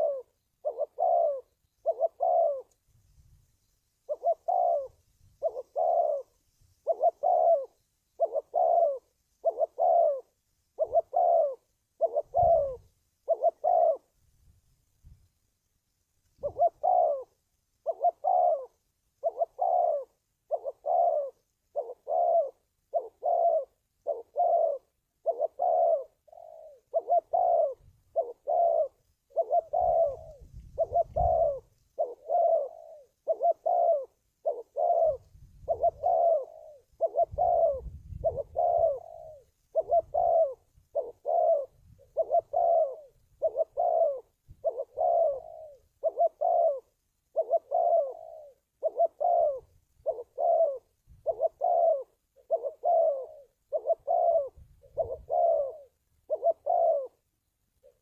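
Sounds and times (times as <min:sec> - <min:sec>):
dove cooing: 0:00.0 - 0:02.9, 0:04.0 - 0:14.2, 0:16.3 - 0:58.0.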